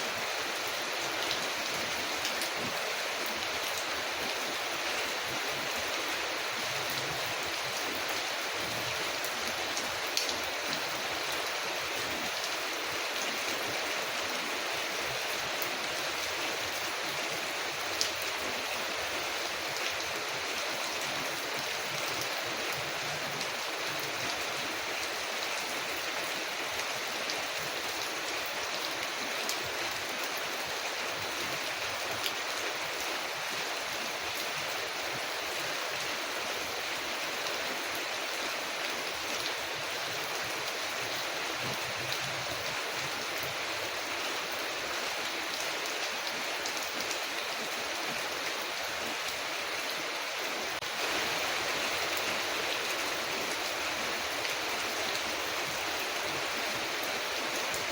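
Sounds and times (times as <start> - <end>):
rain on a window: 0.1 - 57.9.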